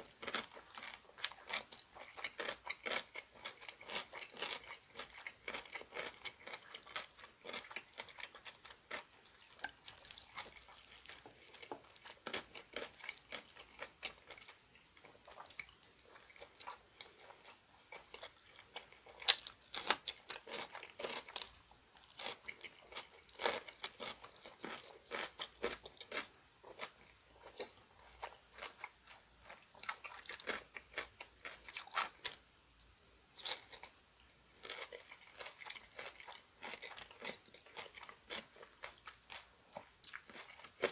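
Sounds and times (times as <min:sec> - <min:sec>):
crunchy chewing: 0:00.0 - 0:32.4, 0:33.4 - 0:34.0, 0:34.6 - 0:40.9.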